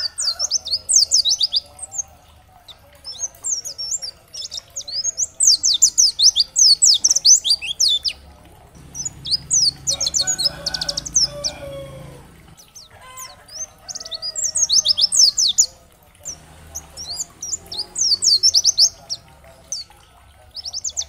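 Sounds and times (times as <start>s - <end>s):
bird singing chattering song: 0.0s - 21.0s.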